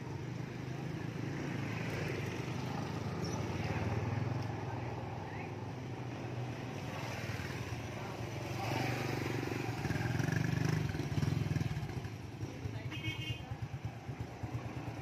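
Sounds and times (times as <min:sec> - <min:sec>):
motorbike engines running: 0:00.0 - 0:15.0.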